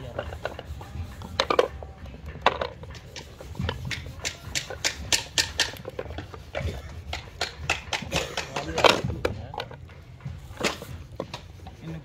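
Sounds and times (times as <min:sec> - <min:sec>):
taps and clicks of wooden boxes: 0:00.0 - 0:11.8.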